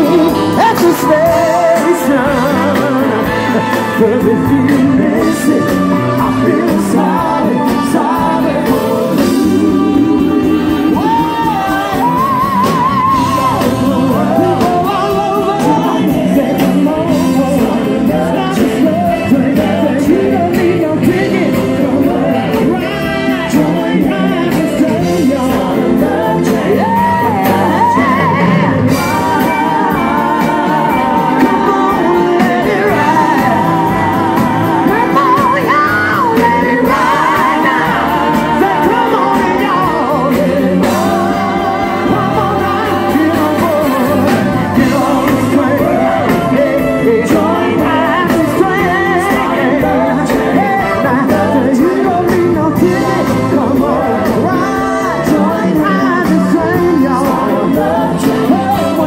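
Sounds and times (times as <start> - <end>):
drums: 0.0 - 59.0
group of singers singing: 0.0 - 59.0
saxophone: 0.0 - 59.0
soul band playing: 0.0 - 59.0.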